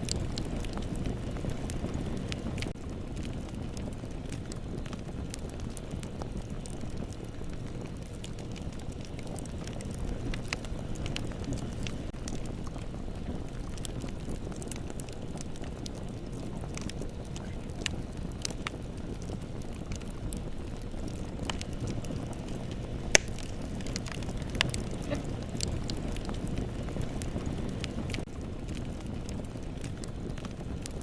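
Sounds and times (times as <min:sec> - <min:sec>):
bonfire flames rushing: 0:00.0 - 0:31.0
burning wood crackling and popping: 0:00.0 - 0:31.0.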